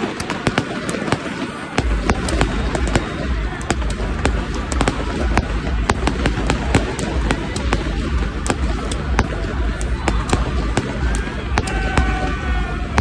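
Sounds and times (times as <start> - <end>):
fireworks banging: 0.0 - 13.0
continuous low rumble: 0.4 - 13.0.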